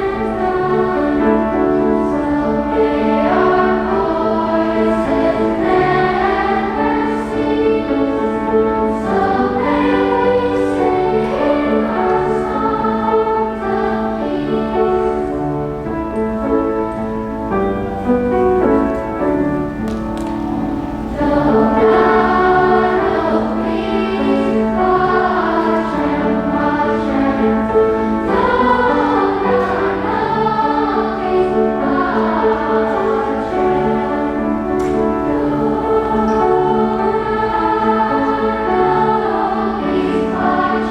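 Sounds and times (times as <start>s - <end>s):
choir singing: 0.0s - 40.9s
held instrumental accompaniment: 0.0s - 40.9s.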